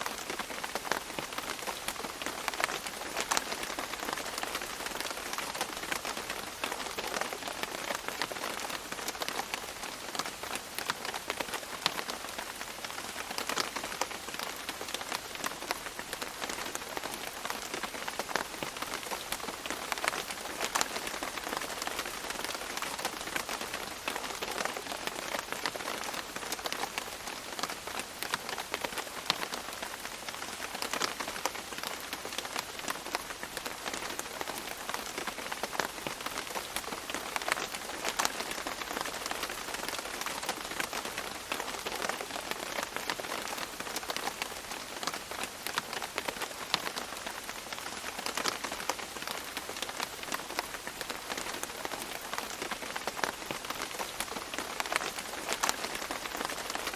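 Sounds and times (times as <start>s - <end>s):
rain pattering on leaves: 0.0s - 56.9s.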